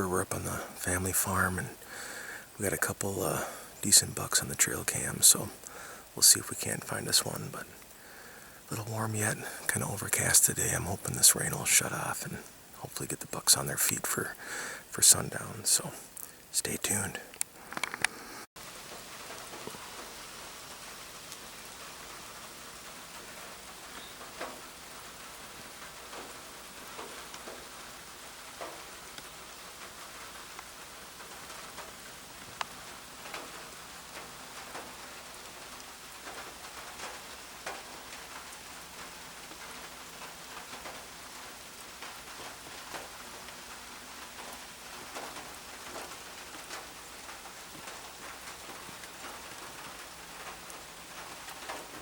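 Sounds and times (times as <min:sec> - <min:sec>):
rain falling: 0:00.0 - 0:52.0
raindrops ticking close by: 0:00.0 - 0:52.0.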